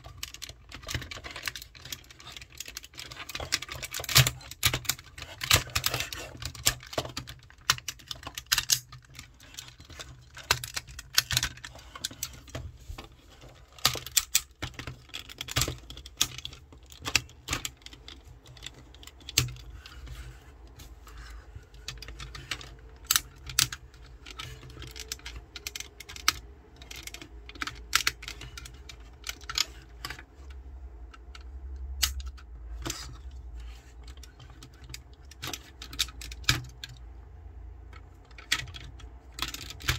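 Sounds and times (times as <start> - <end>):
plastic toy parts clicking: 0.0 - 39.9.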